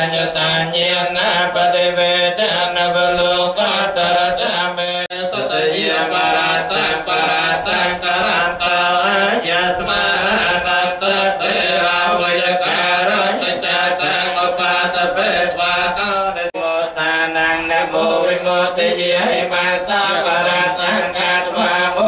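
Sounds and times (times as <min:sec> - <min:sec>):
monks chanting: 0:00.0 - 0:22.0.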